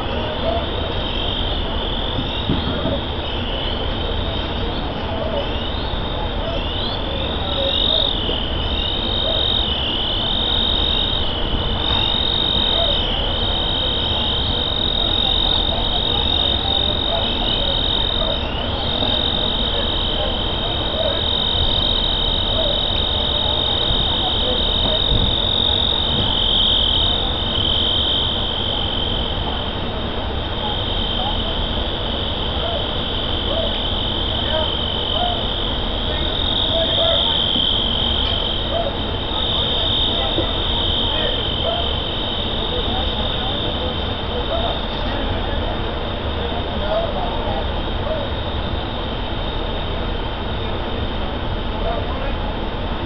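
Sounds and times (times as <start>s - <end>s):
frogs calling in chorus: 0.0s - 53.0s.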